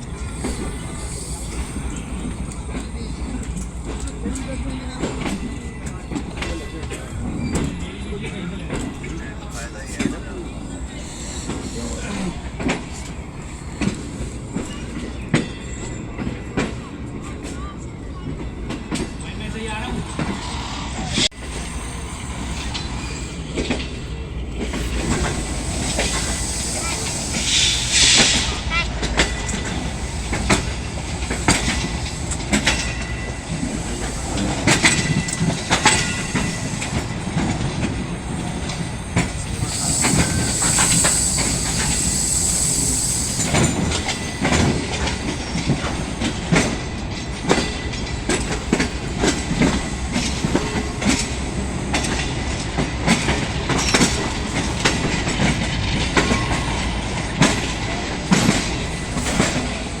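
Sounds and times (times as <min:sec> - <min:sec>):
train wheels clattering over joints: 0:00.0 - 1:00.0.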